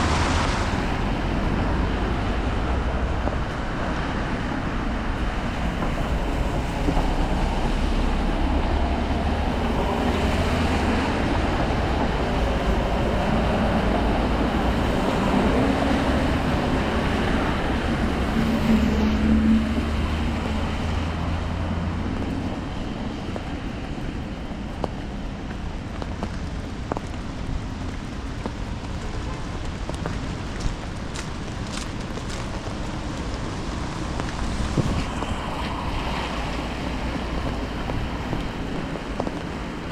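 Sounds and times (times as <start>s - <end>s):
traffic engine rumble: 0.0s - 39.9s
tyres hissing on wet asphalt: 0.0s - 39.9s.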